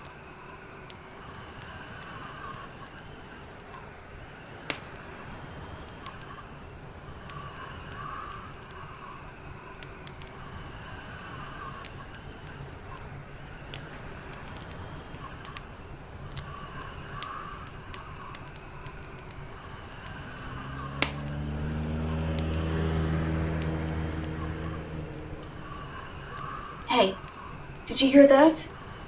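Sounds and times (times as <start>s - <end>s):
fire crackling and popping: 0.0s - 29.0s
vehicle engine hum: 0.7s - 29.0s.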